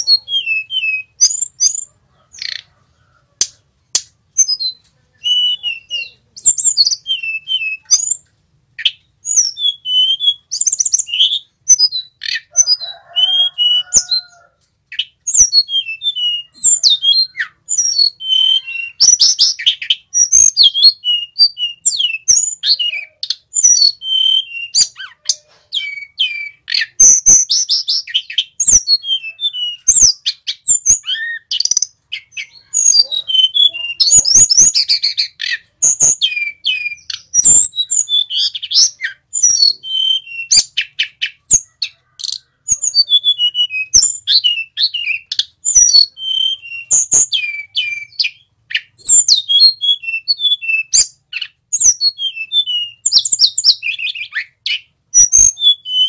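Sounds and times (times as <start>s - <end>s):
bird singing whistles and trills: 0.0s - 2.6s, 4.4s - 14.3s, 14.9s - 56.0s.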